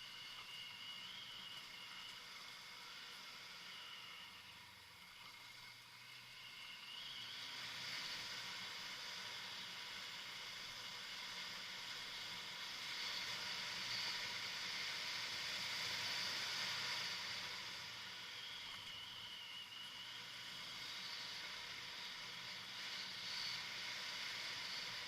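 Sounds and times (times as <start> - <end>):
faint low motorcycle engine: 0.0 - 25.0
steady hiss: 0.0 - 25.0.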